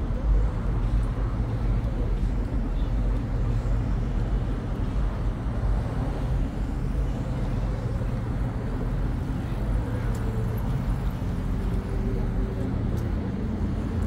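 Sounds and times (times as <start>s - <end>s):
city road traffic rumble: 0.0s - 14.0s.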